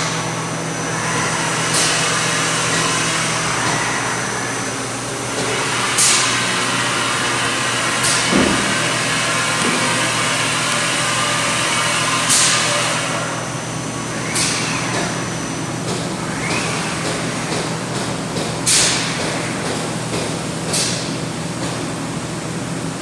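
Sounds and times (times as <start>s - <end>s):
industrial machinery hum: 0.0s - 23.0s.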